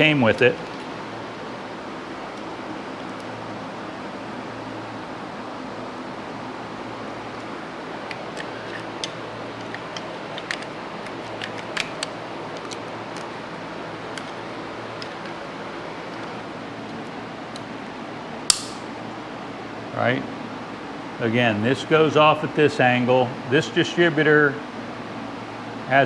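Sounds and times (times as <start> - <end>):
background hiss and hum: 0.0 - 26.0.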